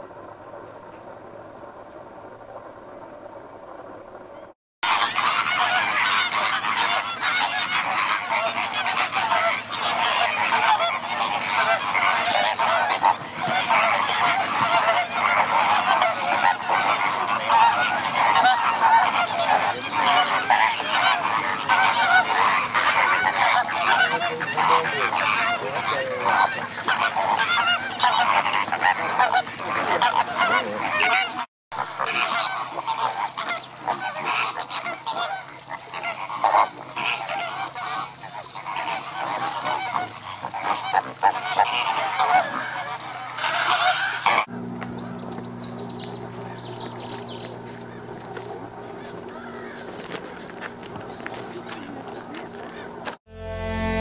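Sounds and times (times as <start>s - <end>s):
flamingos honking chorus: 4.8s - 54.0s.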